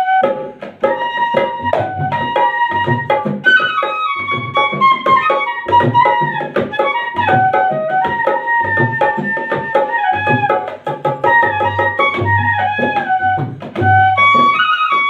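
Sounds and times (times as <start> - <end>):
flute melody with pitch slides: 0.0 - 15.0.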